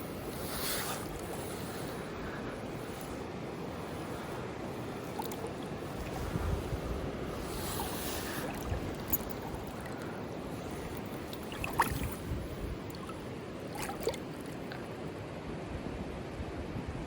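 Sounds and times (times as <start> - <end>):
river water running: 0.0 - 15.4.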